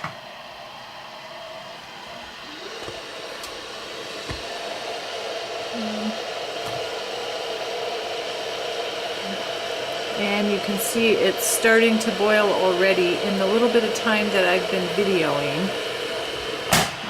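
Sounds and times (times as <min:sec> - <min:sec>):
electric kettle hissing: 0:00.0 - 0:17.0.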